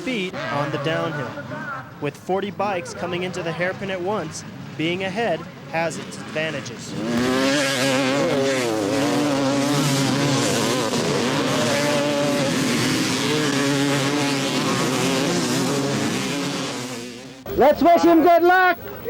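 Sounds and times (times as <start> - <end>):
motorcycles racing: 0.0 - 17.8.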